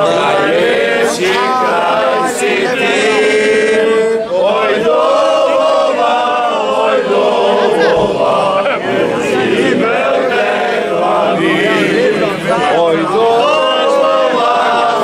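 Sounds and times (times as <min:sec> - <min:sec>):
group of men singing: 0:00.0 - 0:15.0.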